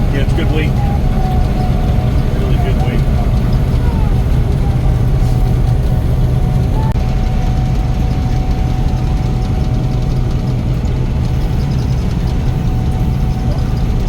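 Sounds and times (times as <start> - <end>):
combine harvester droning: 0.0 - 14.0
thin steady whine: 0.0 - 14.0.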